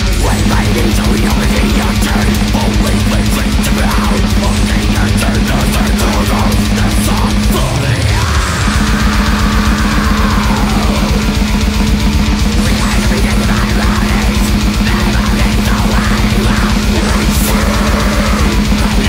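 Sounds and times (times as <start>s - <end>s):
distorted electric guitars: 0.0s - 19.0s
drum kit playing: 0.0s - 19.0s.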